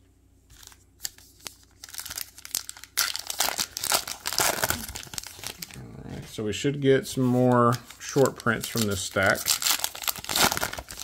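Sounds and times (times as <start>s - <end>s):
paper wrapper crinkling: 0.5s - 5.8s, 7.0s - 11.0s.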